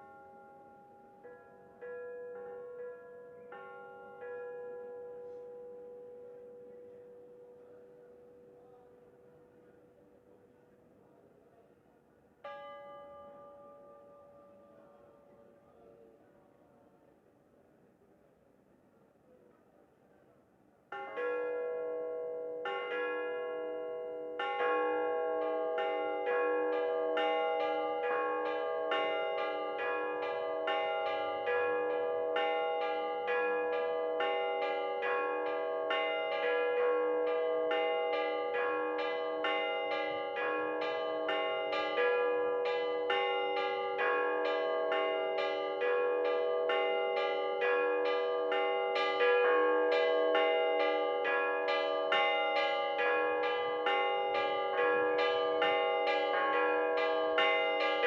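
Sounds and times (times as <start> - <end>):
church bells pealing: 0.0 - 8.8, 12.4 - 14.7, 20.9 - 58.0.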